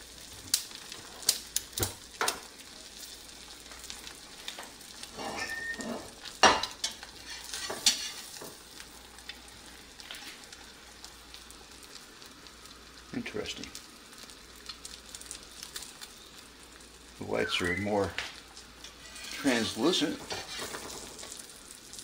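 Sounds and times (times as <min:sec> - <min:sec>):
eggs sizzling in a skillet: 0:00.0 - 0:22.0.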